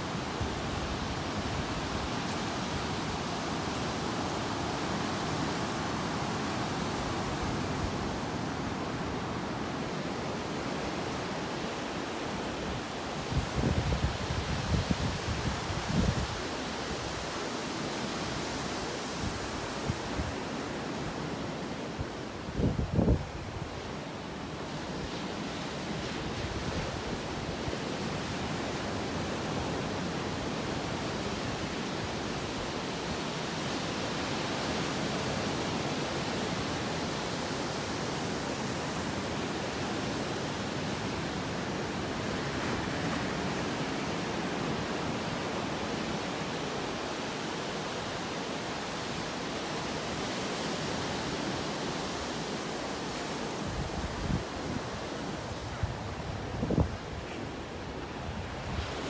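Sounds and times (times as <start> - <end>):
wind gusts on microphone: 0.0 - 49.3, 49.9 - 59.0.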